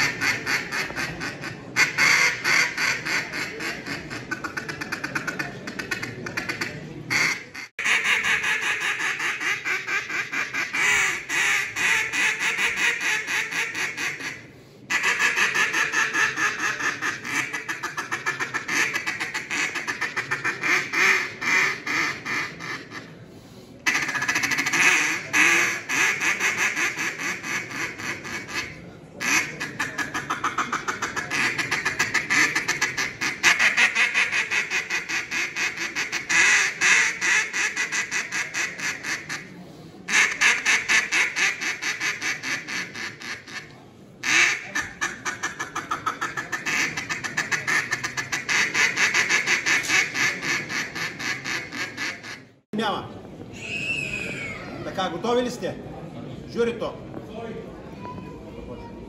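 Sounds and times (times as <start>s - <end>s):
duck call quacking: 0.0s - 23.2s, 23.8s - 39.5s, 40.1s - 52.6s.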